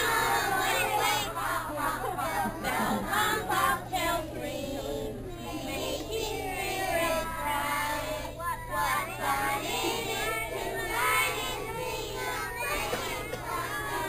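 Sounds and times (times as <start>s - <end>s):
young children singing together: 0.0s - 14.0s.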